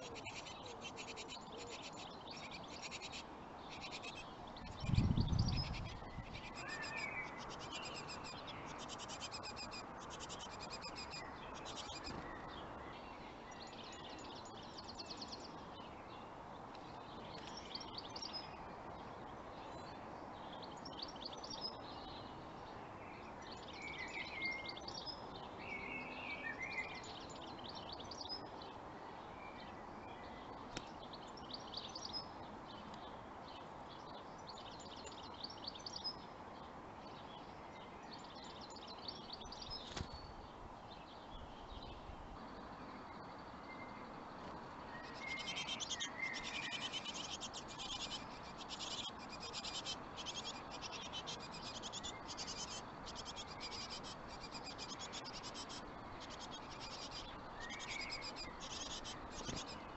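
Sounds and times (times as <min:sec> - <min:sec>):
small birds chirping: 0:00.0 - 0:59.9
steady background hiss: 0:00.0 - 0:59.9.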